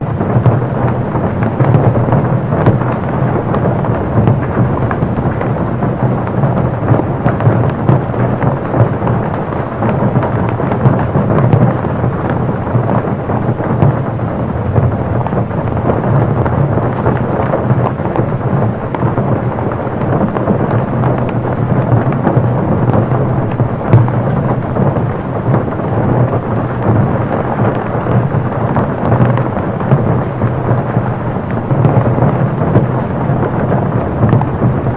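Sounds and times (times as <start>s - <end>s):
heavy rain on a car: 0.0s - 34.9s.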